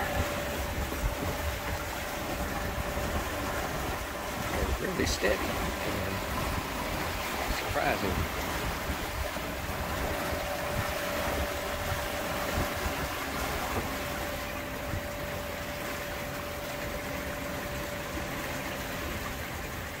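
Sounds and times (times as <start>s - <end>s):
wind buffeting microphone: 0.0s - 17.5s
water rushing past hull: 0.0s - 20.0s.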